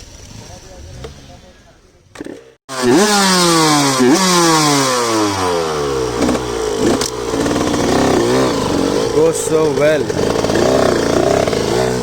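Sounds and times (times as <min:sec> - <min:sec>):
two-stroke motorbike engine revving: 0:02.1 - 0:12.0.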